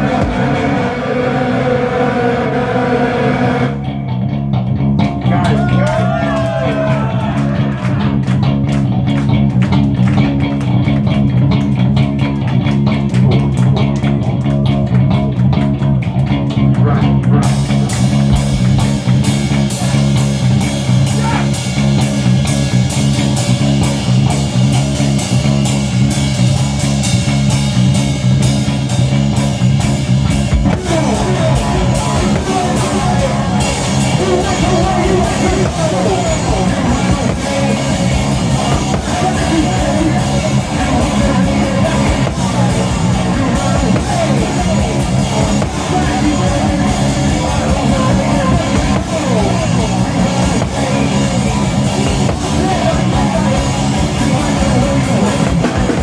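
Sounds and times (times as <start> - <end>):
fast drum-kit playing: 0.0 - 3.8, 5.0 - 56.0
distorted bass guitar drone: 0.0 - 56.0.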